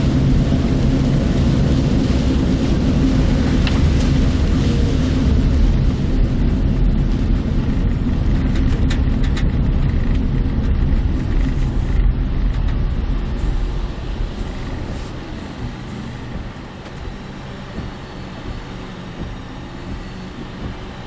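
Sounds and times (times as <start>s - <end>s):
car road rumble inside cabin: 0.0s - 21.0s.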